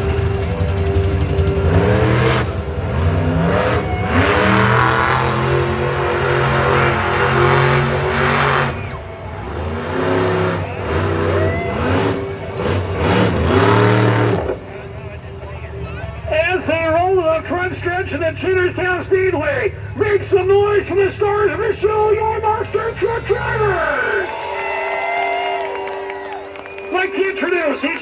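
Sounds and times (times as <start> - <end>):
truck engines revving hard: 0.0 - 25.5.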